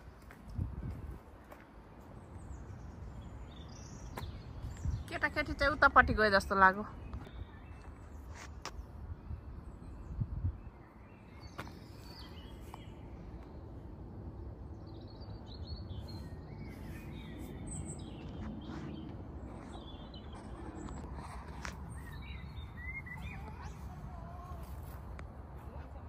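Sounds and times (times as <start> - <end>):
small birds chirping and singing: 0.5 - 13.7, 14.4 - 26.0.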